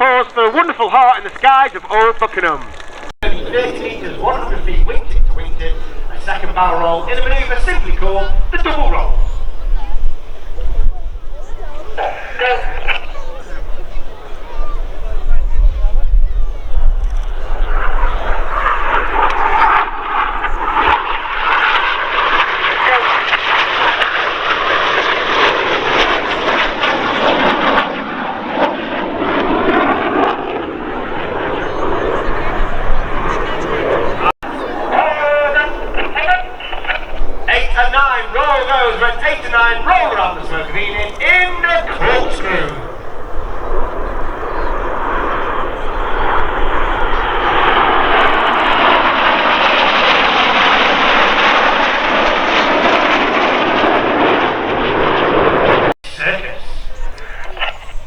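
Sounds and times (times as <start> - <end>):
jets flying past roaring: 0.0 - 58.0.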